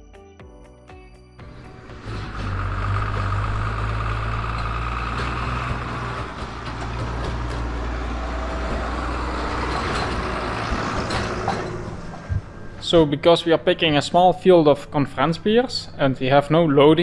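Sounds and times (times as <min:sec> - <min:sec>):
farm machinery engine humming: 0:01.4 - 0:17.0.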